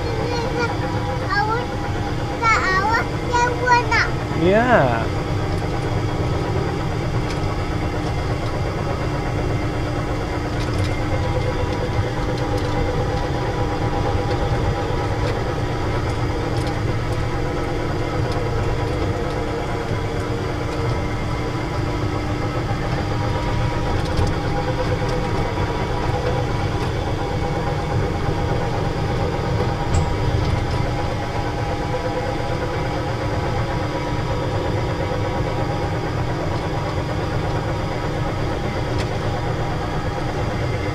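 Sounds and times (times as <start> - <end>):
small ride motor running: 0.0 - 40.9.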